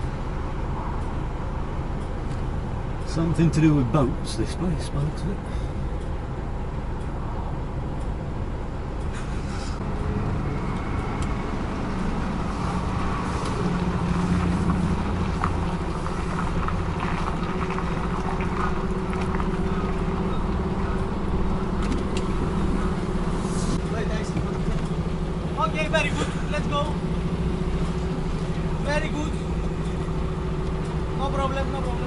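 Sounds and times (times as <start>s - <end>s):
lorry diesel engine droning: 0.0s - 32.0s.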